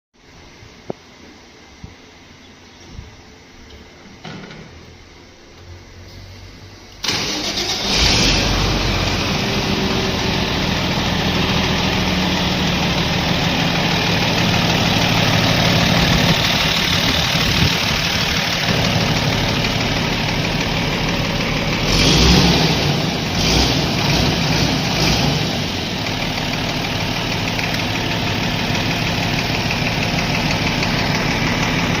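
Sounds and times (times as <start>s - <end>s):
tractor engine running: 5.6s - 32.0s.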